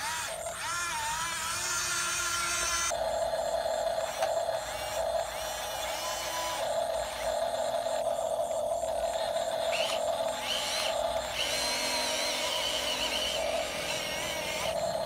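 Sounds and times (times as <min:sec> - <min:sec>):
small electric toy motors whining: 0:00.0 - 0:15.0.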